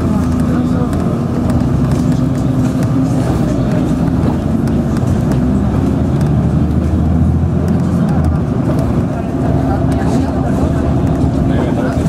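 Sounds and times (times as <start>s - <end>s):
bus engine running: 0.0s - 12.0s
road noise: 0.0s - 12.0s.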